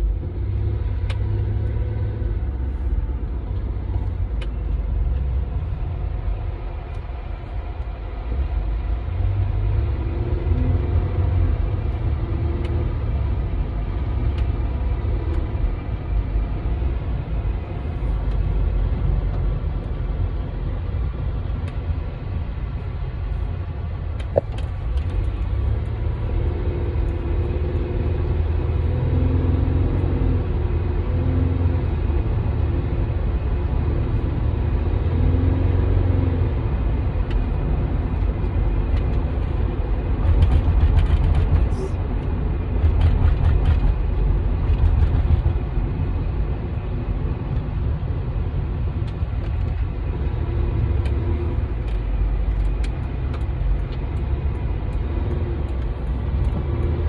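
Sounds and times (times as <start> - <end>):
engine and road noise rumble: 0.0 - 57.0.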